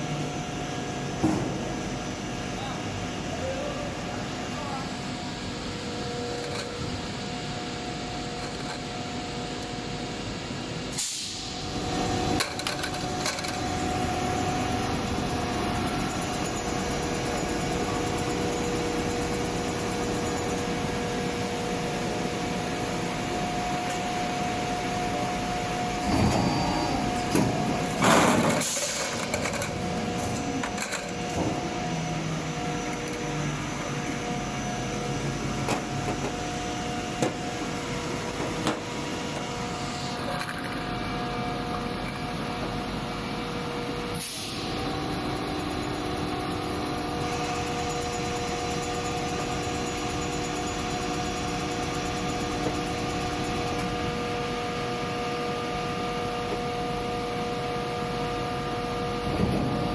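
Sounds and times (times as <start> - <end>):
machine mechanical hum: 0.0 - 59.9.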